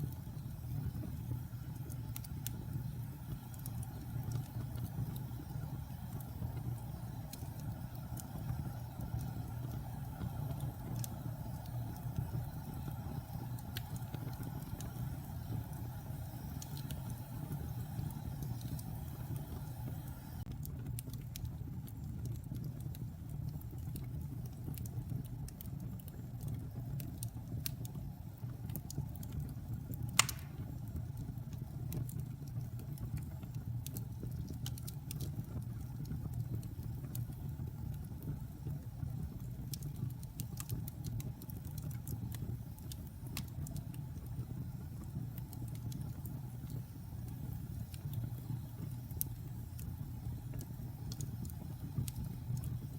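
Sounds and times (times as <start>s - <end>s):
fire burning in fireplace: 0.0s - 52.9s
fire crackling: 0.0s - 52.9s.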